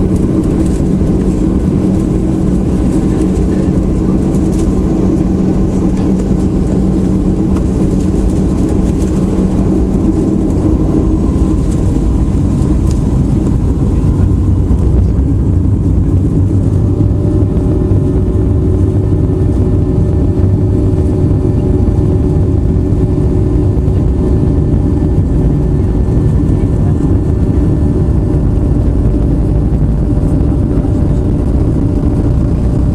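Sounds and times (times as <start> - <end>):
jet engines running: 0.0 - 32.9.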